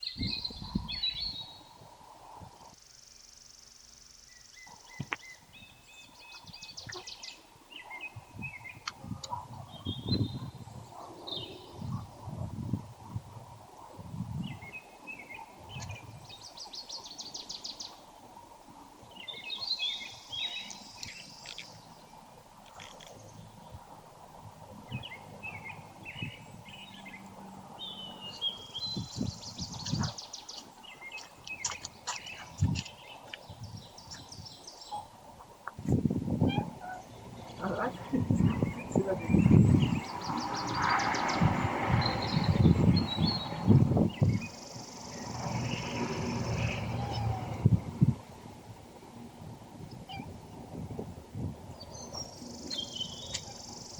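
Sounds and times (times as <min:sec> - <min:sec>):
small birds chirping and trilling: 0:00.0 - 0:01.8, 0:02.6 - 0:12.2, 0:14.3 - 0:18.3, 0:19.0 - 0:22.2, 0:24.8 - 0:35.2, 0:35.9 - 0:47.7, 0:49.9 - 0:50.6, 0:51.6 - 0:53.9
wind rumbling on microphone: 0:00.0 - 0:02.8, 0:04.6 - 0:53.9
low outdoor noise: 0:00.0 - 0:53.9.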